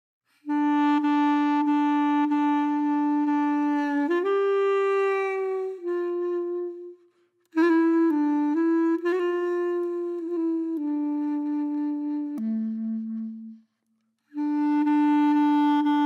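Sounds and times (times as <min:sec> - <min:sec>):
instrumental melody of long notes: 0:00.5 - 0:16.0.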